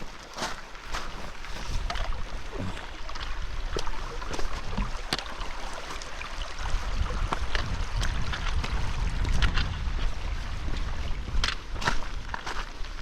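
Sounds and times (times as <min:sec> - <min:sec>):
footsteps on a hill track: 0:00.0 - 0:06.1, 0:07.0 - 0:13.0
wind rumbling on microphone: 0:00.0 - 0:13.0.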